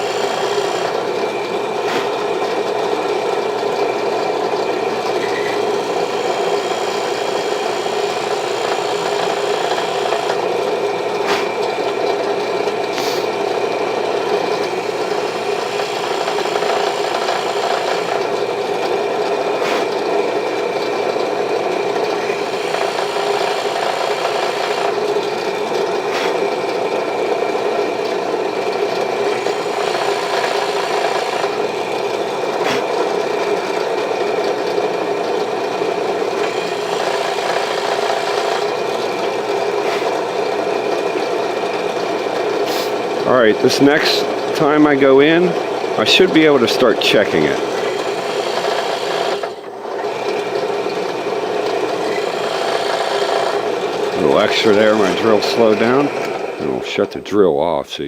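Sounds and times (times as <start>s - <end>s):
electric drill boring into wood: 0.0s - 57.1s.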